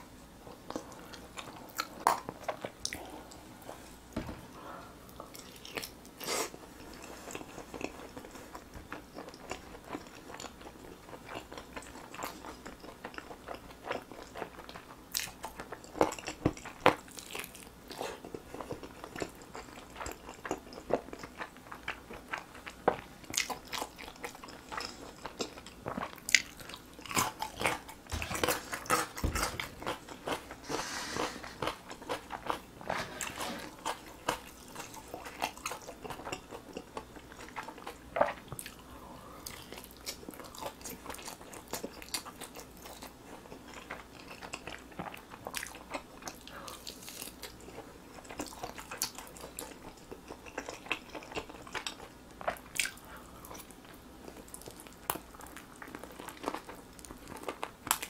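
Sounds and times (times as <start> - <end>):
biting and chewing chicken: 5.3 - 38.9, 39.5 - 58.0.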